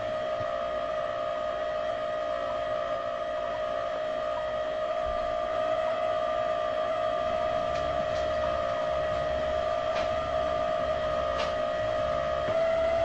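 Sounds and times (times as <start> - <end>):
steady electronic hum: 0.0 - 13.0.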